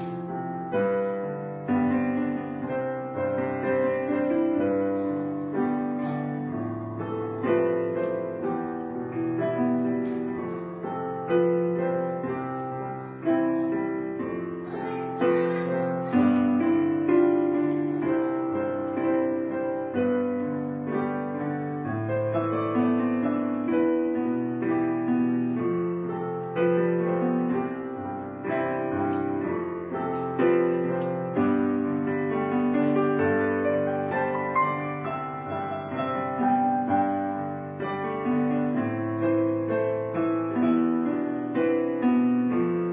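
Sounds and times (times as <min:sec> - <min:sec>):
slow piano chords: 0:00.0 - 0:42.9.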